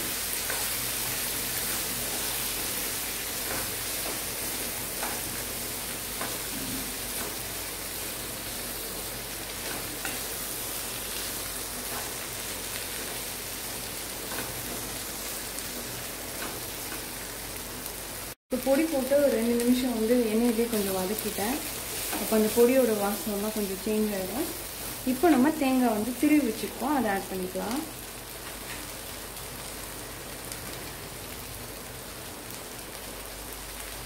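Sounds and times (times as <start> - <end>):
beans sizzling in oil: 0.0 - 34.0.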